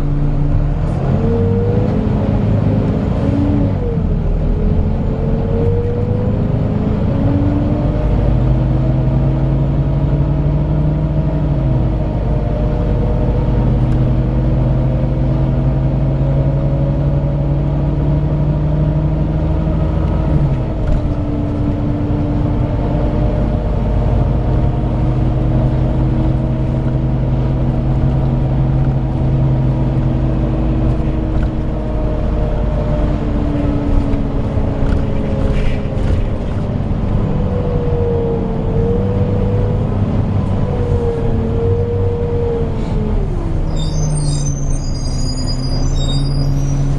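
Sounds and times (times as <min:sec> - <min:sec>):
diesel bus engine rumbling: 0:00.0 - 0:46.9.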